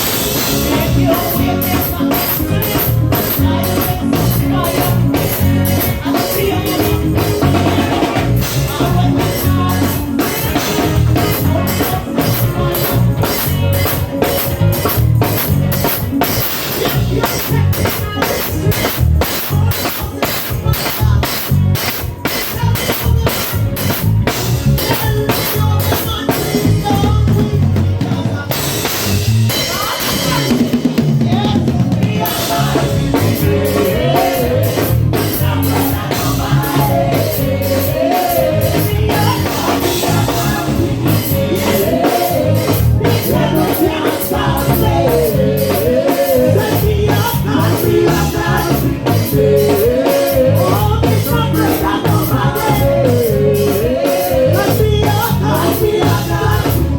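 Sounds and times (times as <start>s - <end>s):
person singing: 0.0s - 14.9s, 16.2s - 24.0s, 24.7s - 56.9s
band playing: 0.0s - 56.9s
drum kit beat: 0.0s - 56.9s.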